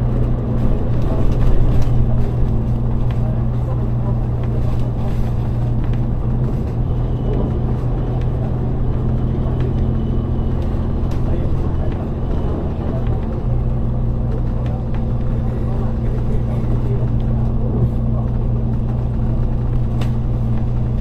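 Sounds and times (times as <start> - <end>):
bus engine drone: 0.0 - 21.0
road rumble: 0.0 - 21.0.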